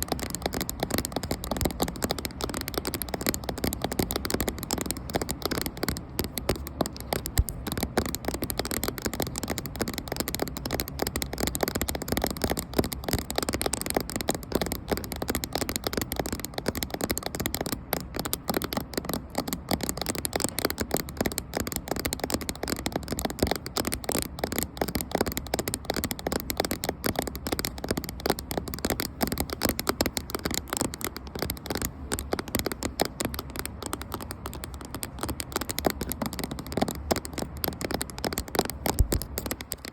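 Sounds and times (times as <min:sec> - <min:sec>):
fingers tapping on camera: 0:00.0 - 0:39.9.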